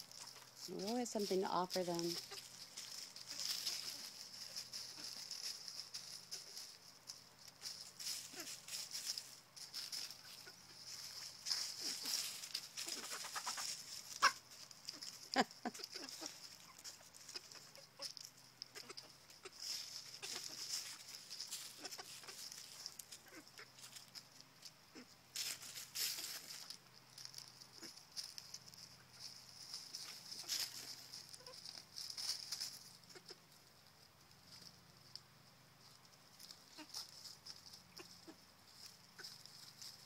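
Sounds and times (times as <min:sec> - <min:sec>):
hens clucking: 0:00.0 - 0:35.2, 0:35.8 - 0:40.0
steady high-pitched hiss: 0:00.0 - 0:40.0.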